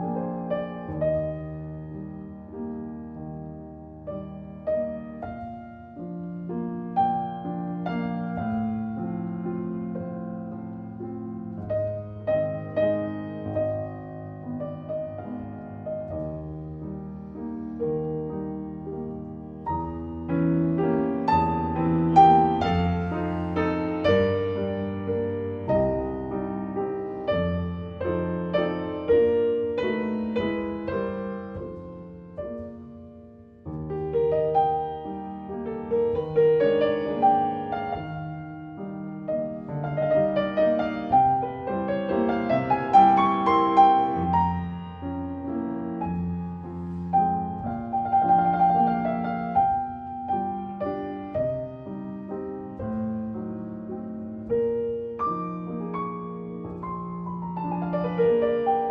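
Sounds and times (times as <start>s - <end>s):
gentle piano piece: 0.0s - 58.9s.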